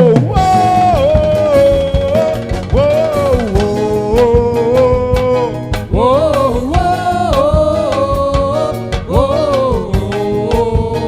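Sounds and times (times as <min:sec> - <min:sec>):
gospel worship band music: 0:00.0 - 0:11.0
person singing: 0:00.0 - 0:11.0
sliding melody line: 0:00.0 - 0:11.0
steady drum beat: 0:00.0 - 0:11.0.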